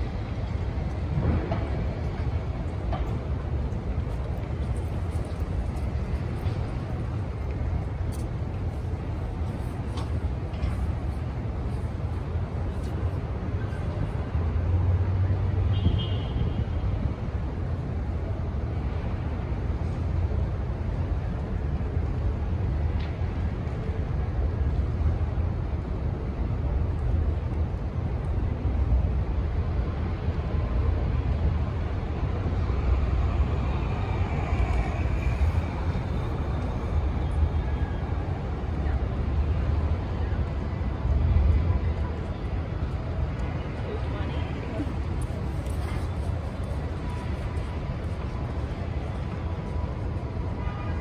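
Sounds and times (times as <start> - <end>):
faint higher street sounds: 0.0 - 51.0
low rumble of traffic: 0.0 - 51.0.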